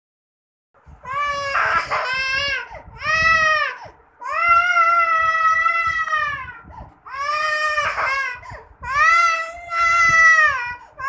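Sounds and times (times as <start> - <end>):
young child crying: 1.1 - 11.0.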